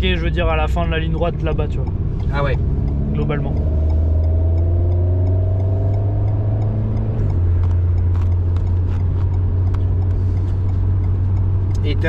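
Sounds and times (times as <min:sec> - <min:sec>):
car engine from inside cabin: 0:00.0 - 0:12.0
light ticks: 0:00.4 - 0:12.0.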